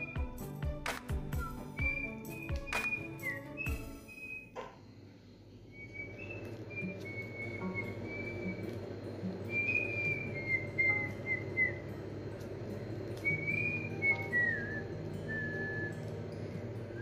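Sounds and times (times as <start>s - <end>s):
person whistling a tune: 0.0s - 4.6s, 5.7s - 8.8s, 9.4s - 11.9s, 13.2s - 17.0s.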